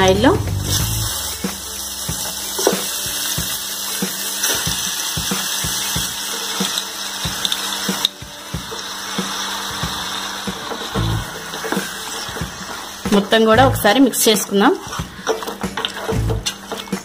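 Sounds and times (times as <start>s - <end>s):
oil sizzling and popping: 0.0s - 17.0s.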